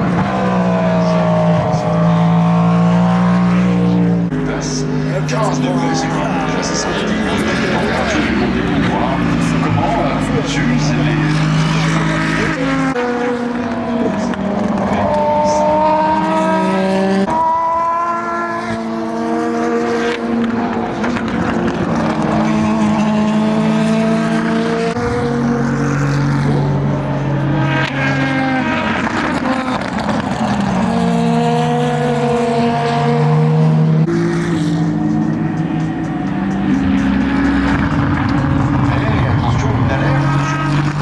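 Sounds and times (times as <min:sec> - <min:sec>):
race car engines at speed: 0:00.0 - 0:41.0.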